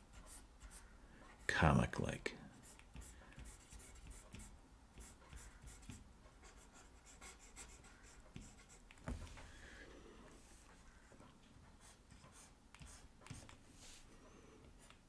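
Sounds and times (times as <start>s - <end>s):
stylus scratching on tablet: 0.0s - 1.6s, 2.5s - 9.0s, 10.3s - 15.0s.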